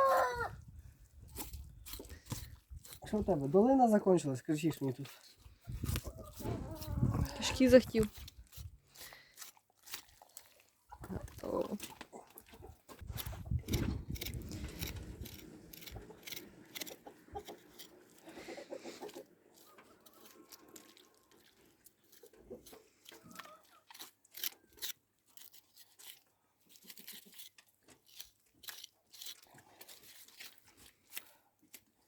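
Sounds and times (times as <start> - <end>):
knife cutting through meat: 1.2 - 3.2, 5.0 - 12.0, 13.0 - 32.0.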